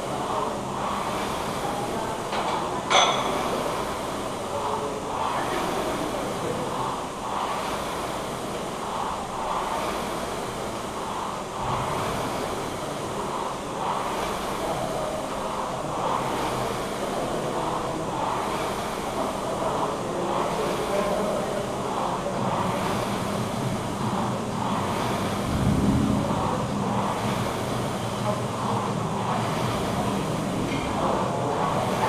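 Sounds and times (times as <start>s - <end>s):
rowing machine fan rushing: 0.0s - 32.0s.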